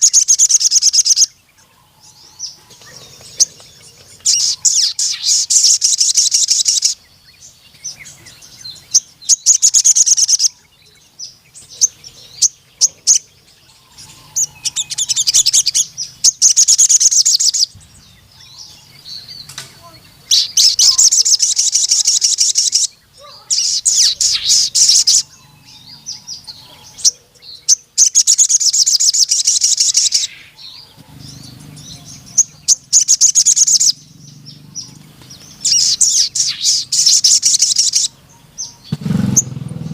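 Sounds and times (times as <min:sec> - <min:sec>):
bird singing rapid high notes: 0:00.0 - 0:01.4, 0:03.3 - 0:39.9.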